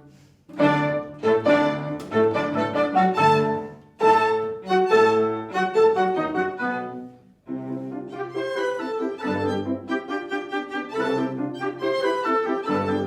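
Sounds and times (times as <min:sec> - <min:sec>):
classical chamber music with strings: 0:00.0 - 0:13.0.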